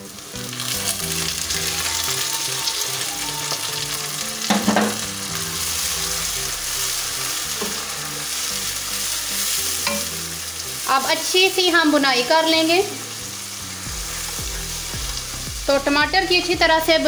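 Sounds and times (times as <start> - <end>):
tomatoes sizzling in hot oil: 0.0 - 17.0.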